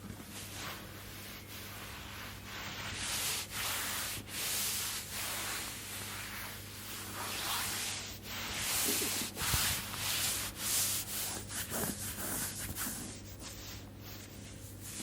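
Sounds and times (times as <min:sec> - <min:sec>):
hands stroking skin: 0:01.4 - 0:15.0.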